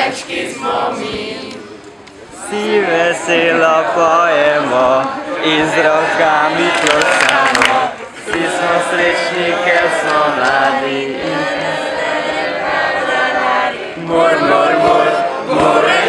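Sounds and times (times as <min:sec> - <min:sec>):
choir chanting: 0:00.0 - 0:16.0.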